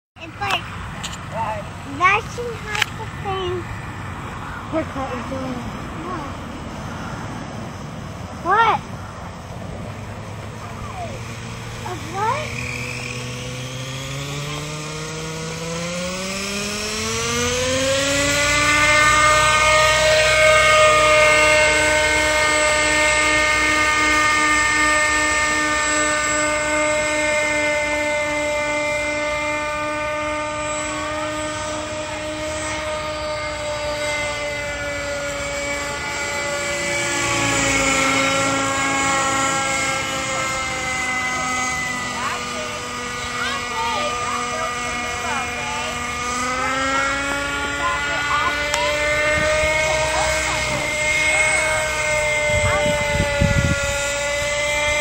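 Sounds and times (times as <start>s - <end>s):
model helicopter spooling up: 0.2s - 55.0s.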